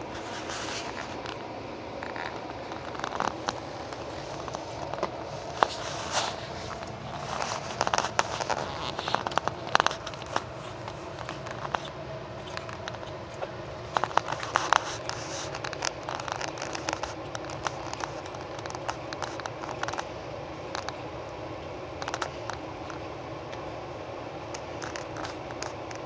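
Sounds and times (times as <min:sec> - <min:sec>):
puppies scratching on carpet: 0:00.0 - 0:21.1, 0:24.5 - 0:26.0
faint hum: 0:00.0 - 0:26.0.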